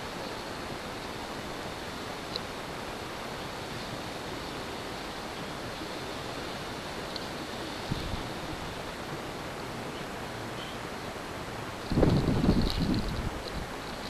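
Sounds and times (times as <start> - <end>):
snowstorm wind hissing: 0.0 - 14.0.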